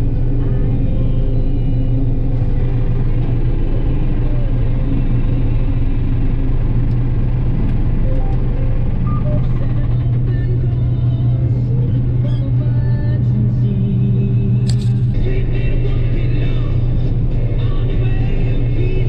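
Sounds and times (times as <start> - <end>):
combine harvester engine and threshing drone: 0.0 - 19.0.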